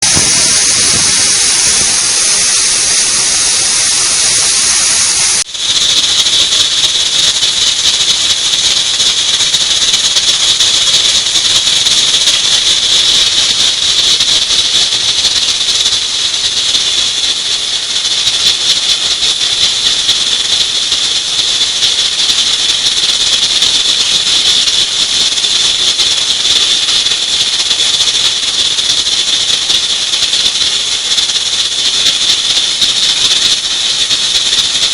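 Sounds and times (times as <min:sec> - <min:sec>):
pressure cooker whistle: 0:00.0 - 0:34.9.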